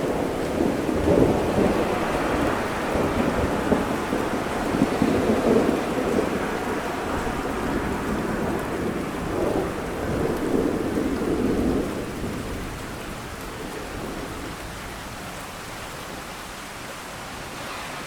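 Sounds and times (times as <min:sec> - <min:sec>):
low rumble of thunder: 0:00.0 - 0:16.3
steady rain: 0:00.0 - 0:18.0.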